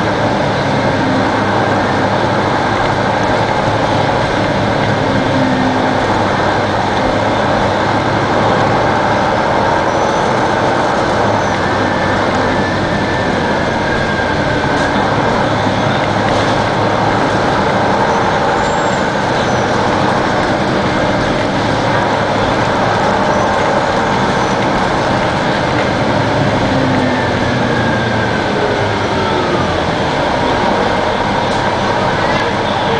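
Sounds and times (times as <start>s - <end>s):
bus diesel engine running: 0.0s - 32.9s.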